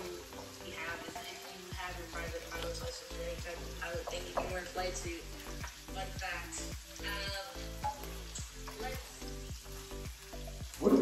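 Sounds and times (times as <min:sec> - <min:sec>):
food sizzling in hot oil: 0:00.0 - 0:11.0
grease popping: 0:01.8 - 0:11.0.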